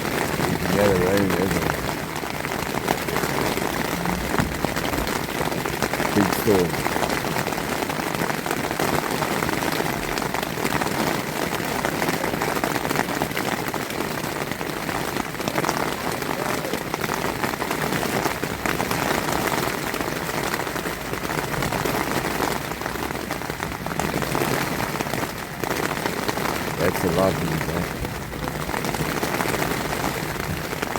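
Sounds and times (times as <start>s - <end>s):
rain pattering on a tent: 0.0s - 30.9s.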